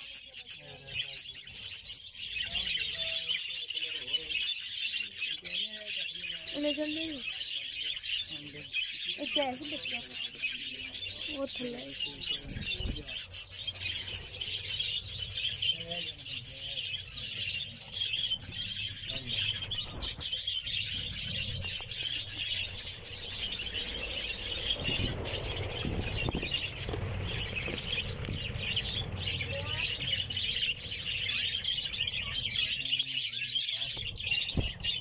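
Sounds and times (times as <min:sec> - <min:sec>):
budgerigars chattering and chirping: 0:00.0 - 0:35.0.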